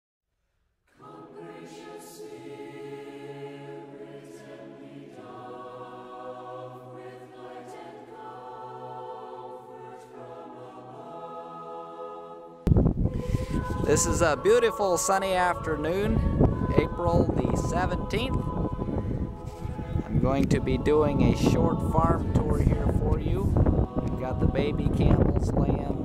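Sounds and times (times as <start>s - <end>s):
choir singing held chords: 0.9s - 26.0s.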